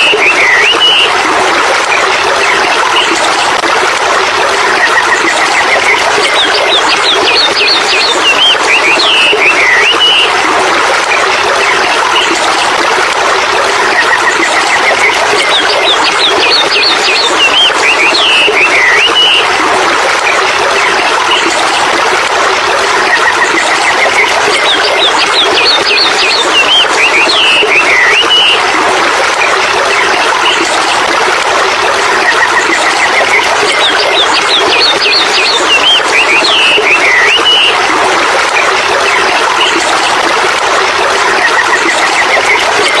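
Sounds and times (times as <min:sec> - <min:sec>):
running water: 0:00.0 - 0:43.0.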